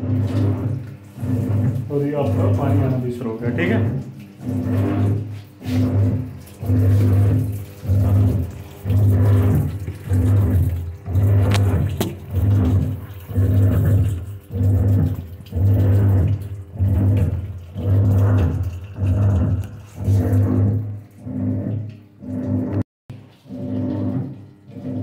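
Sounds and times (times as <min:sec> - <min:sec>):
washing machine motor hum: 0:00.0 - 0:25.0
water flowing into tub: 0:00.0 - 0:25.0.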